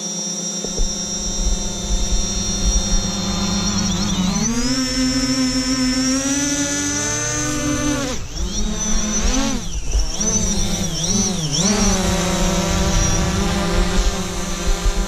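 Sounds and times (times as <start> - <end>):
quadcopter propellers buzzing: 0.0 - 15.0.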